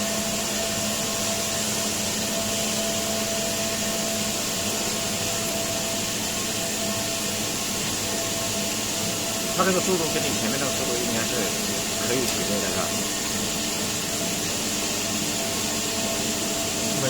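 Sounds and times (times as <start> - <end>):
brush washing machine running: 0.0 - 17.0.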